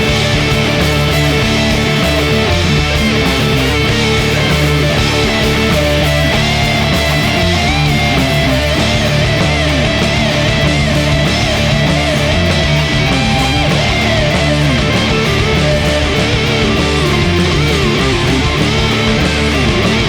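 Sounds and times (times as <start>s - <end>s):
lead guitar bending notes: 0.0s - 20.0s
rock band playing: 0.0s - 20.0s.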